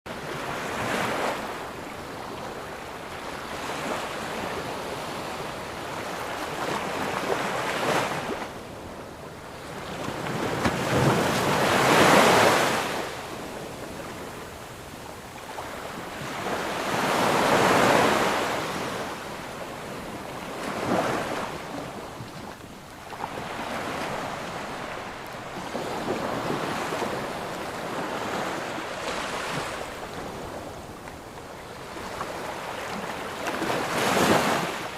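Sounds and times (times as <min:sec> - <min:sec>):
light wind: 0:00.1 - 0:34.9
ocean waves breaking on sand: 0:00.1 - 0:34.9.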